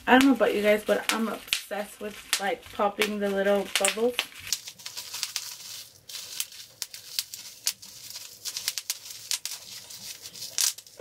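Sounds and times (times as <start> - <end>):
bubble wrap popping: 0.0 - 11.0.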